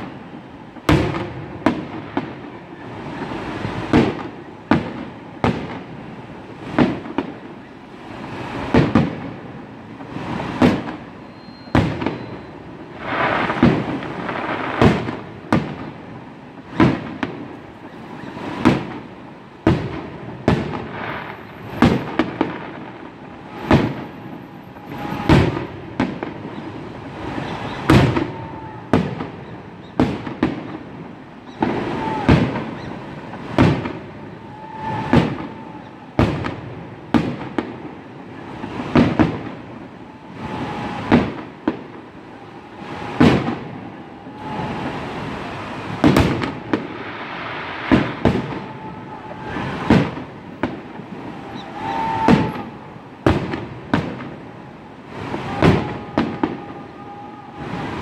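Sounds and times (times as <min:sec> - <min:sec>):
firework crackling: 0:00.0 - 0:58.0.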